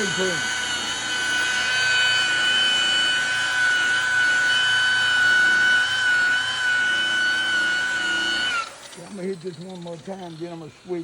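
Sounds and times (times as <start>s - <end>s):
rotary buffer whining: 0.0s - 11.0s.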